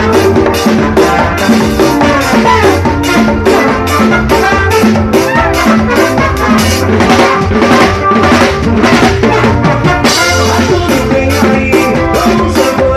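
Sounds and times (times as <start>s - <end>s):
drum kit fast beat: 0.0s - 12.9s.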